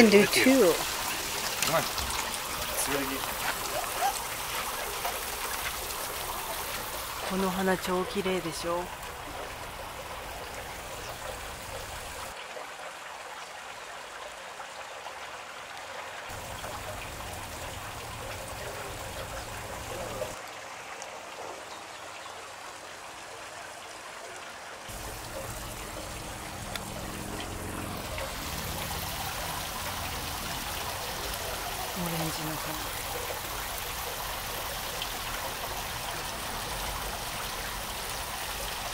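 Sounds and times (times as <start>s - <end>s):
water trickling in a channel: 0.0s - 38.9s.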